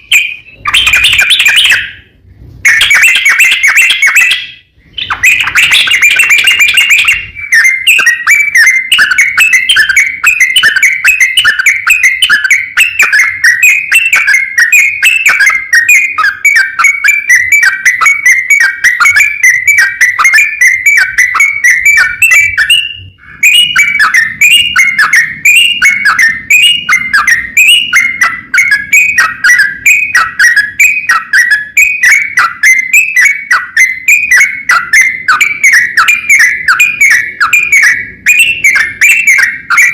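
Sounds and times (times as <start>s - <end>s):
bulbul whistled song: 0.0s - 39.9s.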